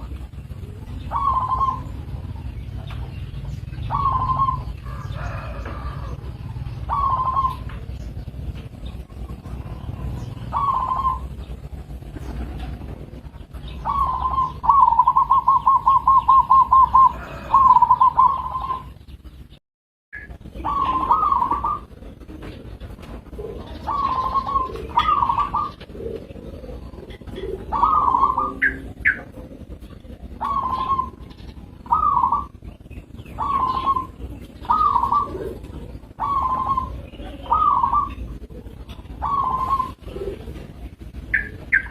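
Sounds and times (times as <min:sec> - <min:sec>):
dove cooing: 0:00.0 - 0:19.4, 0:20.2 - 0:41.9.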